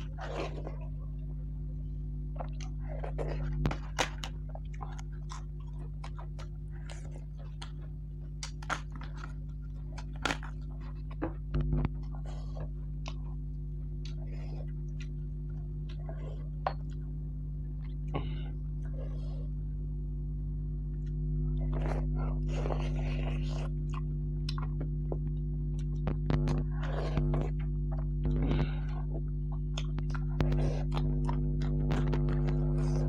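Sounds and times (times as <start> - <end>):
chewing crisp wafers: 0.0 - 1.4, 2.3 - 19.6, 20.9 - 33.0
steady low hum: 0.0 - 33.0.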